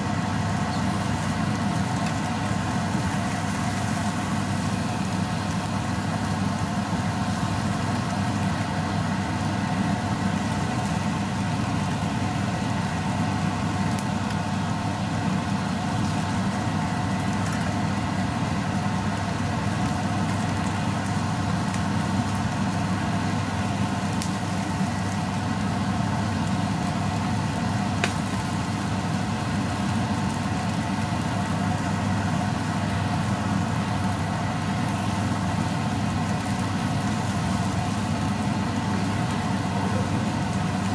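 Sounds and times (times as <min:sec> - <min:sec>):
steady mechanical hum: 0:00.0 - 0:40.9.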